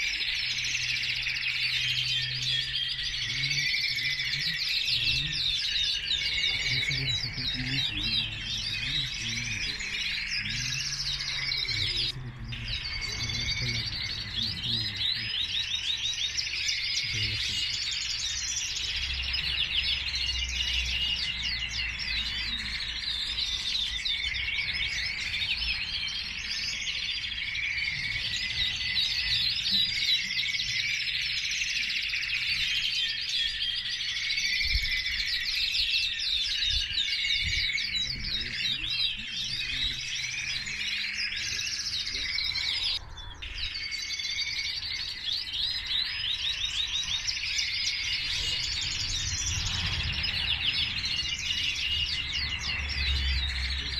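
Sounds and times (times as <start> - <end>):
canaries singing: 0.0 - 53.9.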